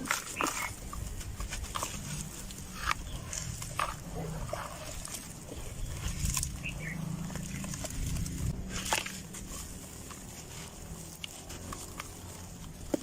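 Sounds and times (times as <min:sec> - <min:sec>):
dry dirt crumbling: 0:00.0 - 0:13.0
low steady rumble: 0:00.0 - 0:13.0.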